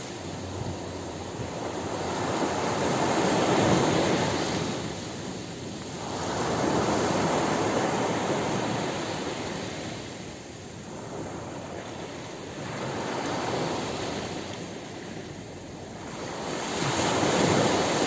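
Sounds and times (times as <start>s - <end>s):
surf waves washing in: 0.0s - 18.0s.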